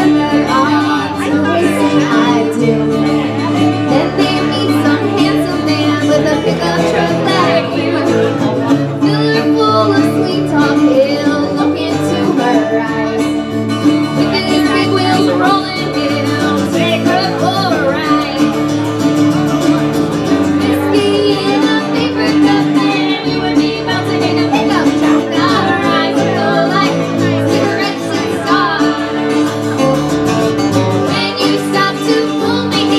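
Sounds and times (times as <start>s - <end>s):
woman singing: 0.0s - 18.8s, 20.4s - 30.0s, 30.9s - 32.9s
acoustic guitar: 0.0s - 32.9s
resonator guitar: 0.0s - 32.9s.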